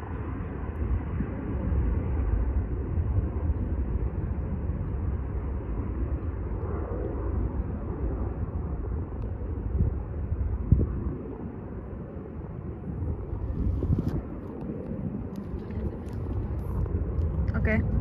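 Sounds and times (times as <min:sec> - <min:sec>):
distant jet engines rumbling: 0:00.0 - 0:18.0.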